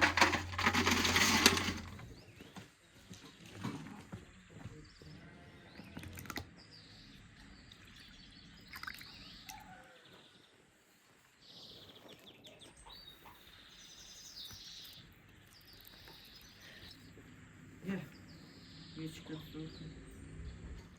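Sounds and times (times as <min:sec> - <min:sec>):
faint birdsong: 0:00.0 - 0:20.9.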